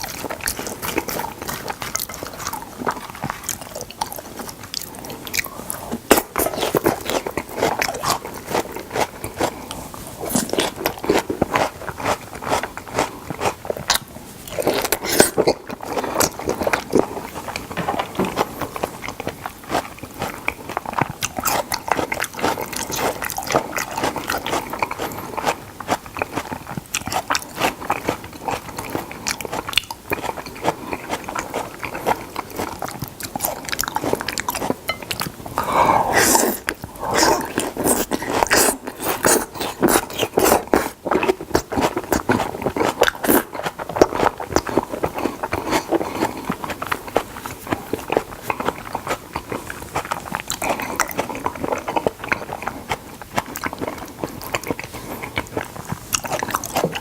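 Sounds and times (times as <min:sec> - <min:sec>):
person chewing wetly: 0:00.0 - 0:57.0.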